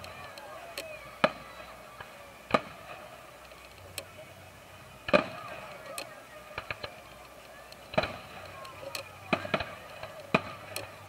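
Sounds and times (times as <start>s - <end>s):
faint fireworks pops: 0.0s - 11.0s
fireworks bursting with bangs: 0.0s - 11.0s.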